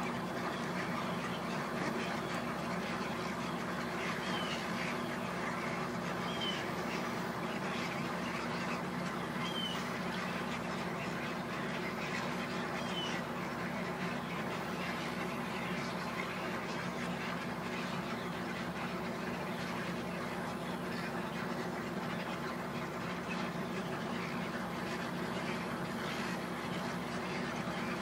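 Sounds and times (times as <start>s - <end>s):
egrets croaking and squawking: 0.0s - 28.0s.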